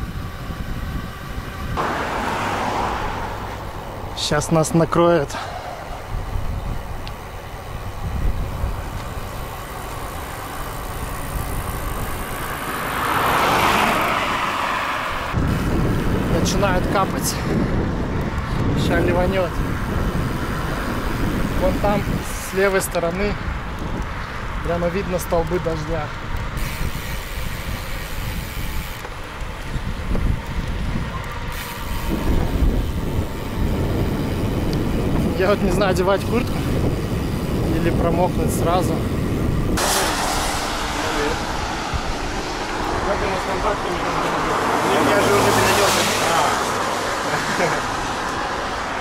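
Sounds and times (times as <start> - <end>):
car tyre noise passing: 0.0 - 49.0
wind rumble on microphone: 0.0 - 49.0.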